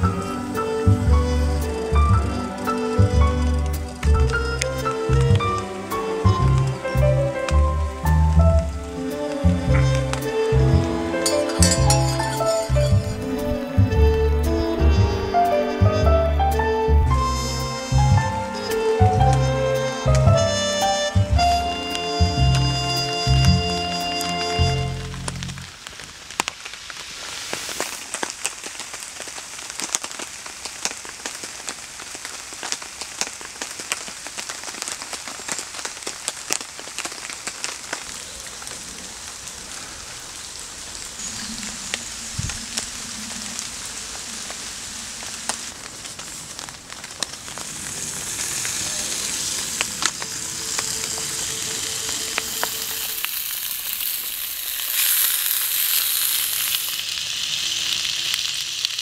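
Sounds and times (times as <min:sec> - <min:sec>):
sausages sizzling in a frying pan: 0:00.0 - 0:15.0, 0:16.9 - 0:59.0
steady hiss: 0:00.0 - 0:59.0.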